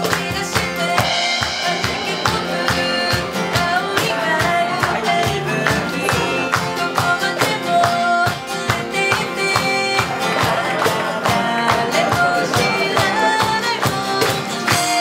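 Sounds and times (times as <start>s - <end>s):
acoustic guitars strummed: 0.0s - 15.0s
person singing: 0.0s - 15.0s
steady beat: 0.0s - 15.0s.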